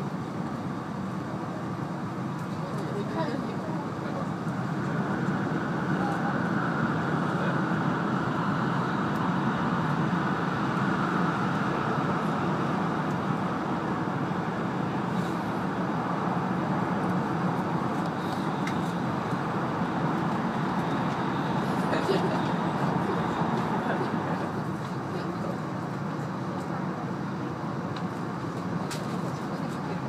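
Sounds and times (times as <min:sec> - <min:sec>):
train cabin rumble and rush: 0:00.0 - 0:30.0.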